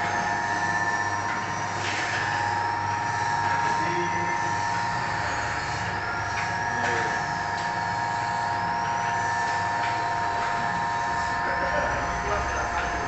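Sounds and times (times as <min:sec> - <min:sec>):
packing machine humming: 0:00.0 - 0:13.0.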